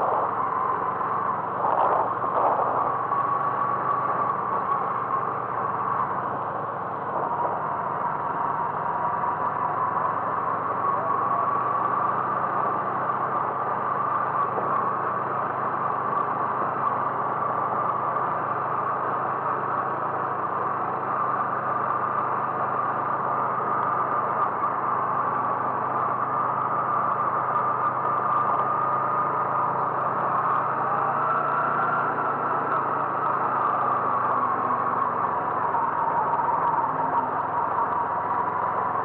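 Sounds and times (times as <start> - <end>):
car engine and road noise: 0.0 - 39.0
whining tone: 0.0 - 39.0.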